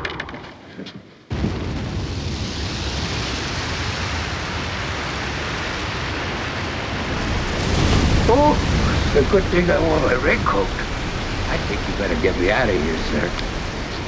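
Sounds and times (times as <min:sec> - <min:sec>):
wind: 0:00.0 - 0:14.0
heavy waves: 0:02.6 - 0:14.0.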